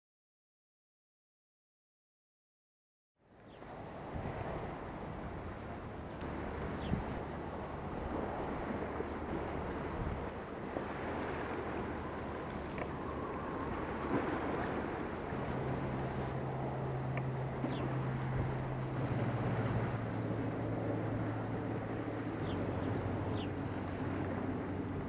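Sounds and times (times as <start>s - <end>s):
distant ship engines droning: 3.2s - 25.0s
higher engine hum: 3.2s - 25.0s
small waves lapping: 3.3s - 25.0s
wind on the microphone: 3.4s - 25.0s.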